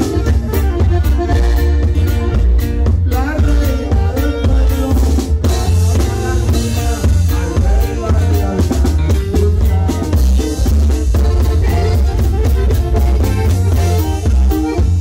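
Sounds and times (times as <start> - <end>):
drum kit beat: 0.0 - 15.0
guitar: 0.0 - 15.0
heavy bass line: 0.0 - 15.0
live band playing: 0.0 - 15.0
saxophone: 0.0 - 15.0.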